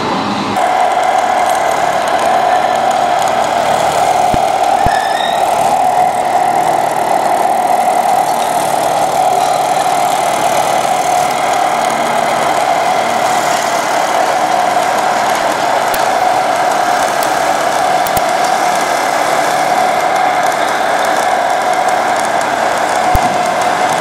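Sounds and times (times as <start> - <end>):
model engine droning: 0.0 - 24.0
sharp clicks: 0.6 - 24.0.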